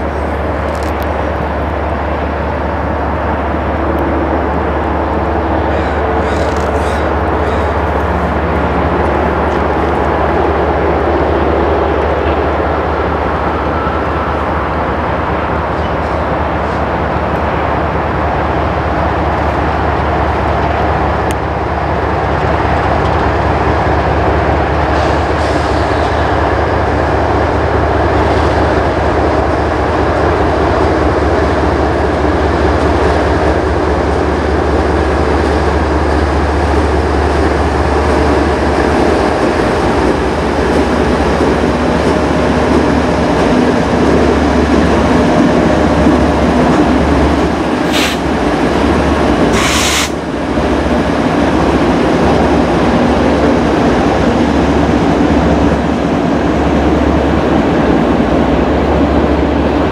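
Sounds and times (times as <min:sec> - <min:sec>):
diesel locomotive rumble: 0:00.0 - 0:59.9
rail noise: 0:00.0 - 0:59.9.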